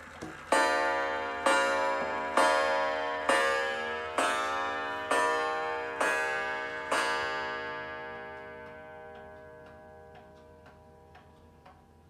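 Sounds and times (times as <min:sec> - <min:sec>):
clock pendulum ticking: 0:00.0 - 0:12.0
clock hammer striking coil gong: 0:00.5 - 0:12.0.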